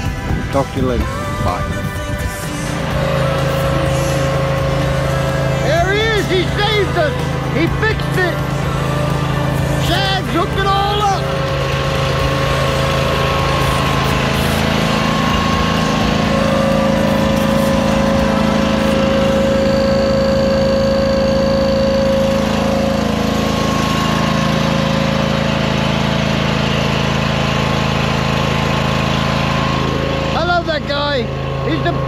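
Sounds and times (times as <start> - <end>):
high steady whine: 0.0 - 32.0
small gasoline engine running: 0.0 - 32.0.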